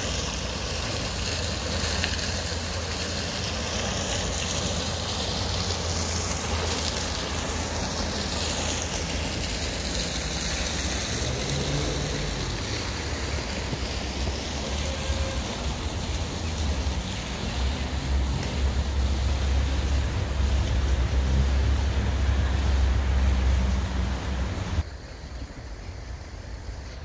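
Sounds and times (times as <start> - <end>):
fountains splashing: 0.0 - 27.0
road traffic: 0.0 - 27.0.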